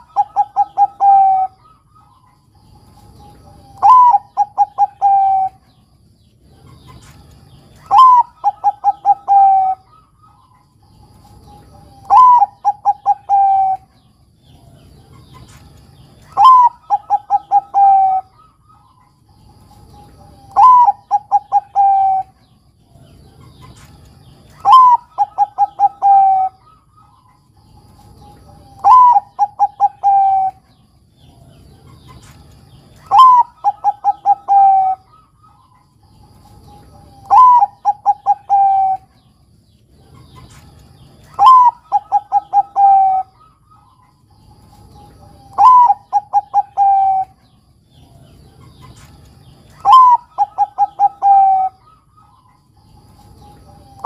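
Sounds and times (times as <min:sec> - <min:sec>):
dove cooing song: 0:00.0 - 0:54.0.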